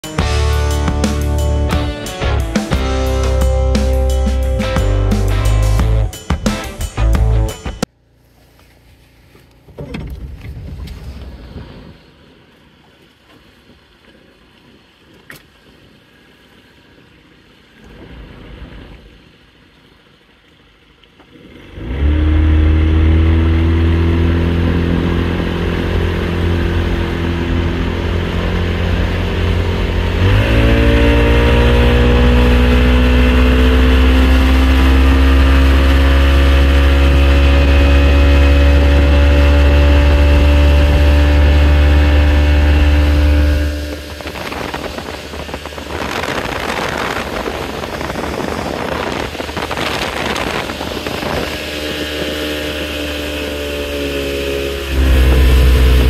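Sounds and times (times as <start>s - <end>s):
outboard motor running: 0.0s - 13.8s, 21.1s - 56.0s
rush of wind and water: 9.8s - 56.0s.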